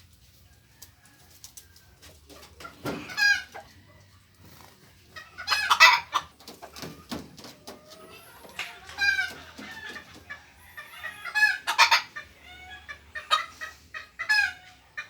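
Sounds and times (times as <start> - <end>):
chickens clucking: 0.1 - 15.0
loud chicken calls: 2.4 - 15.0.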